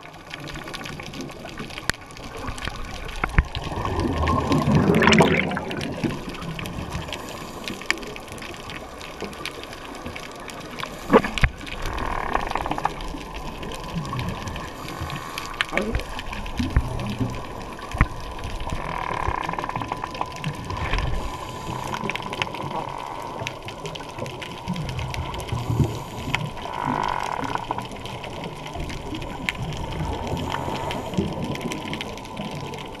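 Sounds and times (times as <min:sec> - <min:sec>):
muffled underwater water noise: 0:00.0 - 0:33.0.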